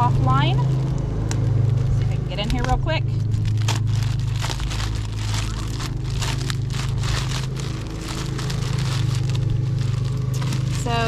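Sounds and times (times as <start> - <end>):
plastic packaging crinkling: 0.0 - 11.0
steady low hum: 0.0 - 11.0.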